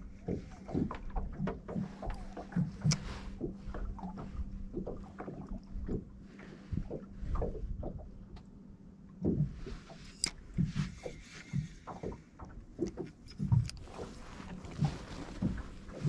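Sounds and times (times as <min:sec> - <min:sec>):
waves slapping against boat hull: 0:00.0 - 0:16.0.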